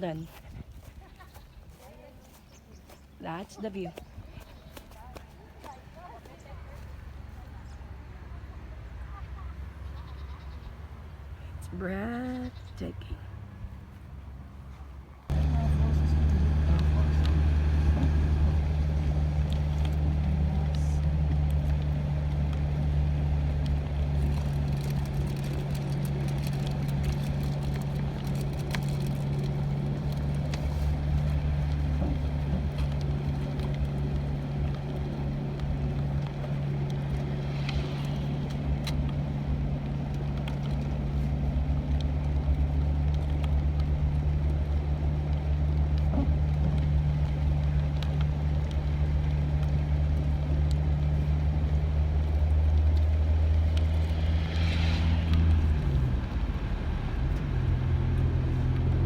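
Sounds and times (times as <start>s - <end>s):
road noise: 0.0s - 59.0s
vehicle engine drone: 0.0s - 59.0s.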